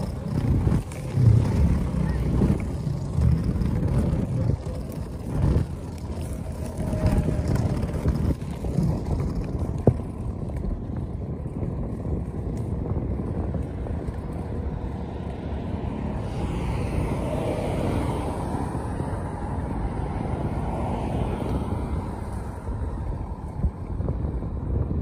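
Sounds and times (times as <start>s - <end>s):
road traffic: 0.0s - 25.0s
wind buffeting microphone: 0.0s - 25.0s.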